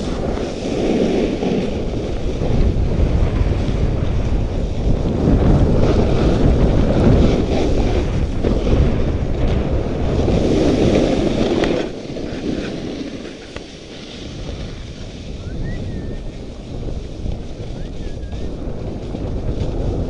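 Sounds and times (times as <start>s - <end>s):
skis sliding on snow: 0.0s - 20.0s
wind rushing over microphone: 0.0s - 20.0s.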